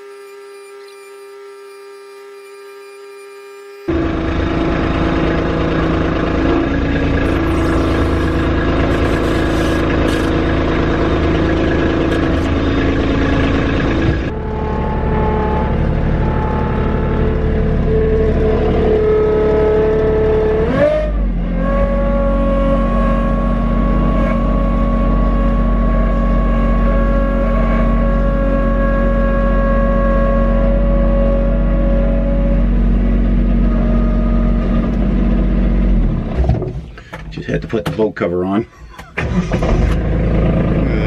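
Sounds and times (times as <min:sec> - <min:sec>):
tractor diesel engine running: 0:03.9 - 0:41.0.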